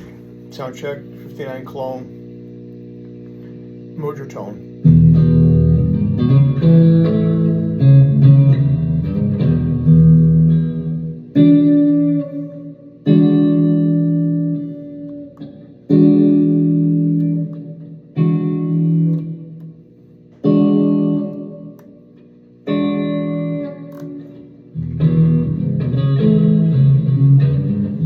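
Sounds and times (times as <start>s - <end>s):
electric guitar chords ringing: 0.0s - 28.0s.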